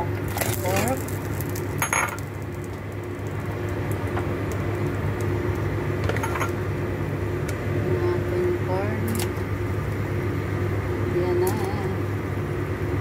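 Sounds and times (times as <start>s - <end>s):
electric appliance hum: 0.0s - 13.0s.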